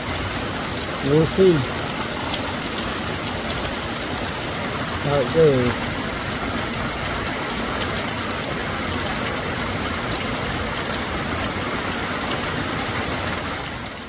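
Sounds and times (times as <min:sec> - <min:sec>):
heavy rain on a tent: 0:00.0 - 0:14.0.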